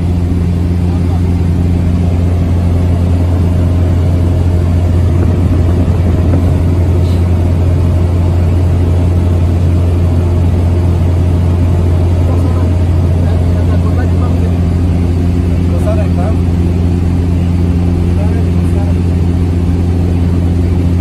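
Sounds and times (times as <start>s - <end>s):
deep hum: 0.0s - 21.0s
propeller aircraft engine drone: 0.0s - 21.0s.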